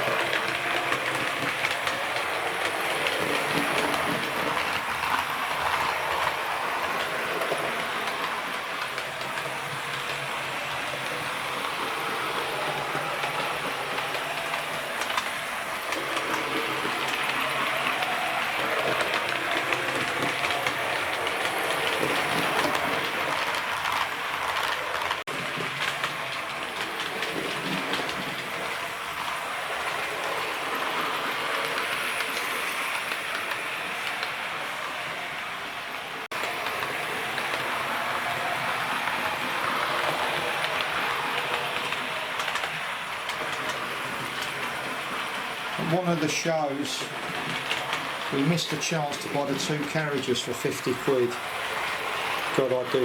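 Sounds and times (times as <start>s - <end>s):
model train wheels clicking on rails: 0.0s - 53.0s.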